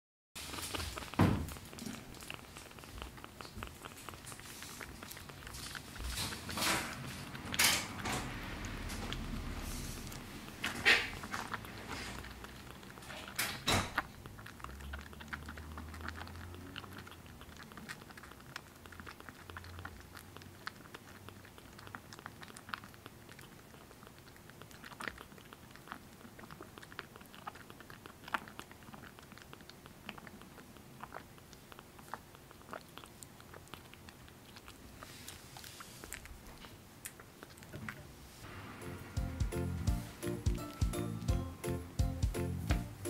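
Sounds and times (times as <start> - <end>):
kitten suckling from bottle: 0.4 - 38.3.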